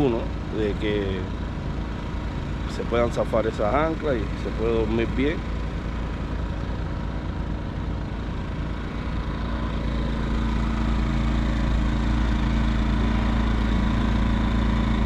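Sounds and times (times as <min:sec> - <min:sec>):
portable generator humming: 0:00.0 - 0:15.0.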